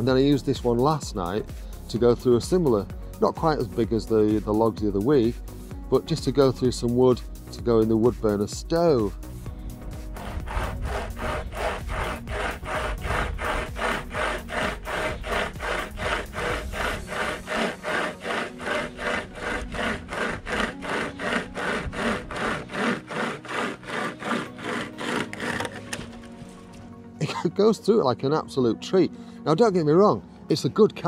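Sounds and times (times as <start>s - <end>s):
chainsaw chain rasping through wood: 0.0s - 7.1s, 7.7s - 26.9s.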